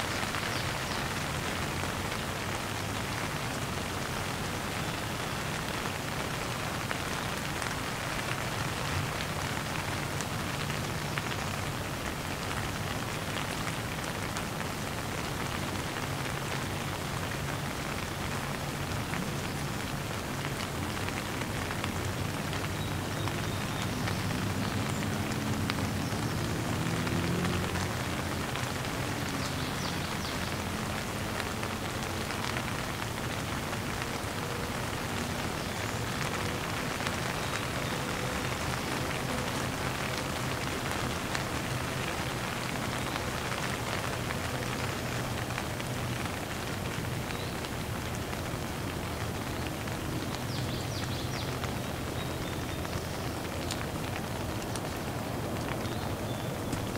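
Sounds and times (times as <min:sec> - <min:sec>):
heavy rain downpour: 0:00.0 - 0:56.9.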